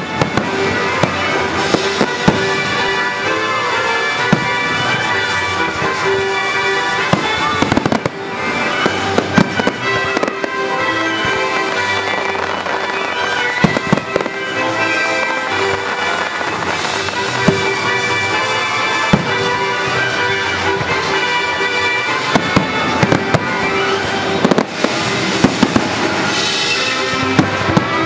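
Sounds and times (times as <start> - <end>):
fireworks bursting and crackling: 0.0 - 28.0
loud orchestral music: 0.0 - 28.0.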